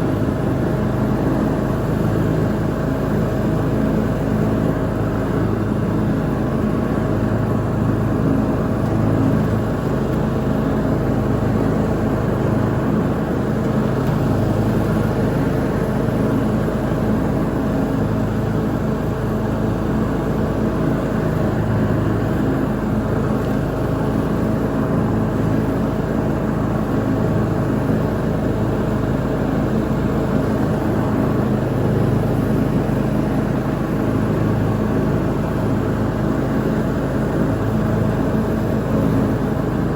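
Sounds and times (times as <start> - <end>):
lawn mower engine droning: 0.0 - 39.9.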